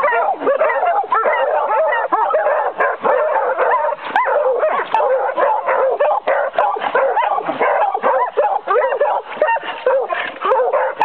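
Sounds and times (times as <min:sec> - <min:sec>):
hounds baying and yelping: 0:00.0 - 0:11.0.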